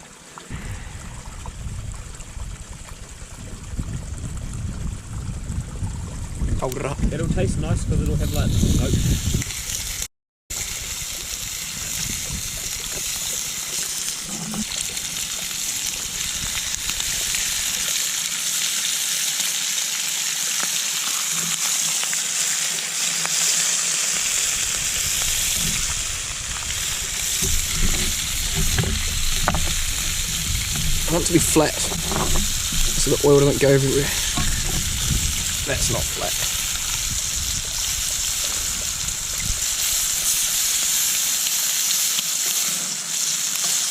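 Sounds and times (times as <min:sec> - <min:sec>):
food sizzling in a frying pan: 0:08.2 - 0:43.9.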